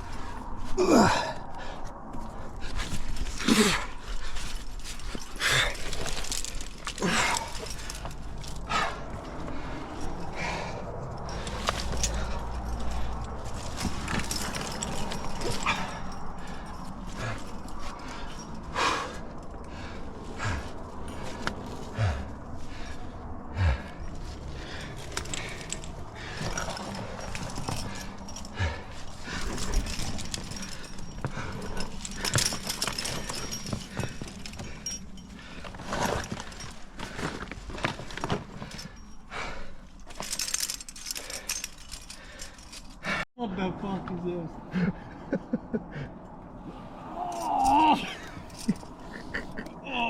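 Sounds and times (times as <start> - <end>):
climbing gear clinking: 0.0 - 43.3, 45.1 - 50.0.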